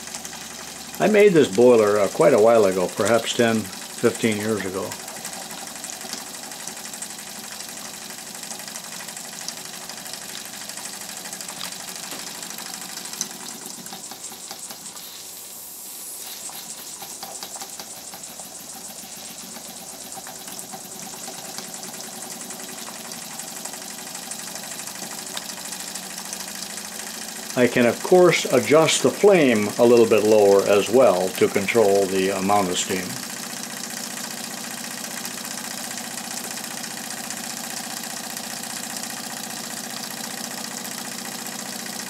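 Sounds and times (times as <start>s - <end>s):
steam engine exhaust hissing: 0.0s - 42.0s.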